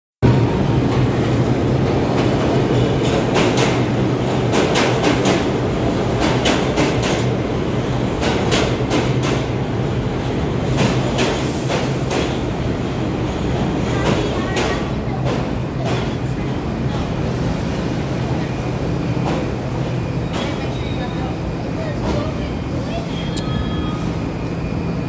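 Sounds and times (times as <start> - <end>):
subway train rumbling: 0.2 - 25.0.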